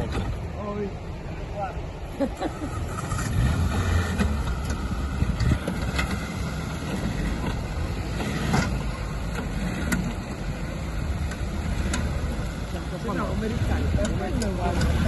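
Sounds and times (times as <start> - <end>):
car engine low drone: 0.0 - 15.0.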